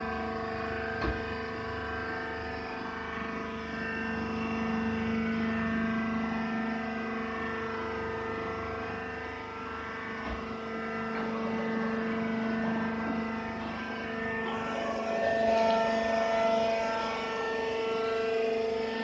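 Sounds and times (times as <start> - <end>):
baler machine humming: 0.0 - 19.0.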